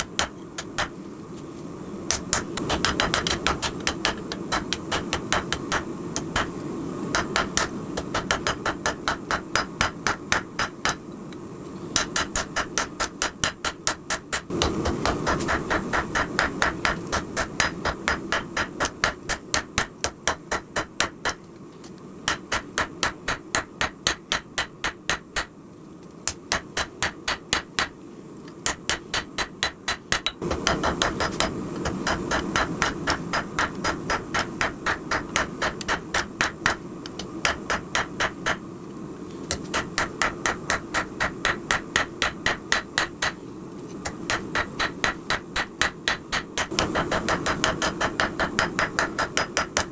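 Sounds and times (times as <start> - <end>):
low background rumble: 0.0 - 49.9.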